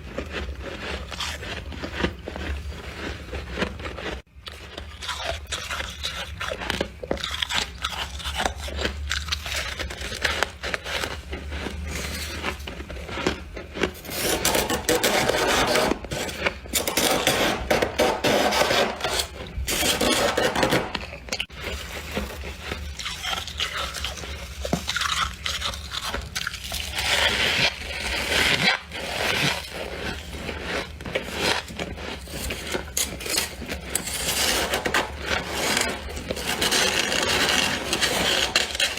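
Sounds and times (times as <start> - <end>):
freezer frost being scraped: 0.0 - 38.9.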